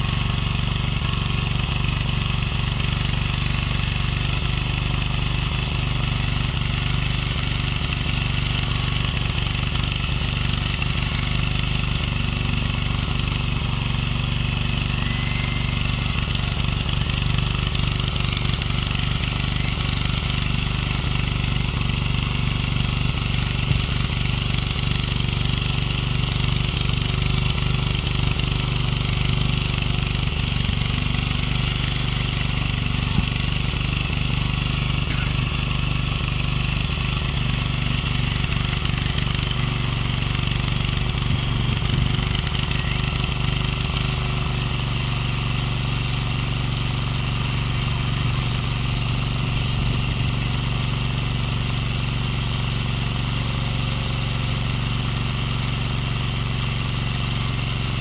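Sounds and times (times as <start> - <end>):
tiller engine running under load: 0.0 - 58.0.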